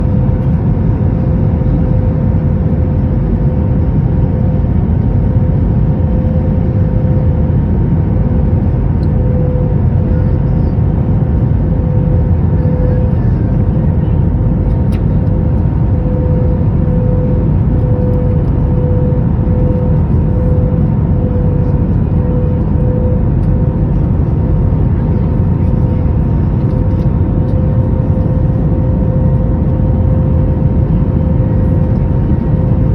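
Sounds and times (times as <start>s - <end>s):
airliner cabin engine rumble: 0.0s - 32.9s
constant hum: 0.0s - 32.9s.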